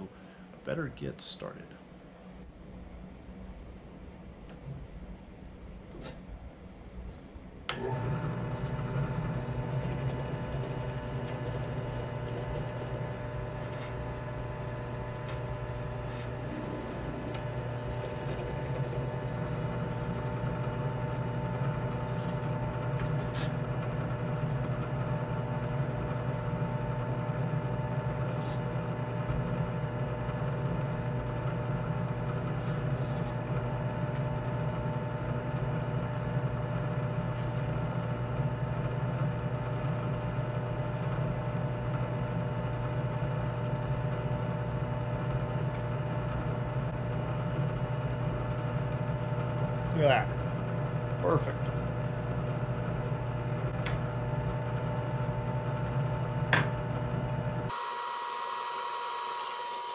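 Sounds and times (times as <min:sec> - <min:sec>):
drill press motor hum: 0:07.1 - 0:59.9.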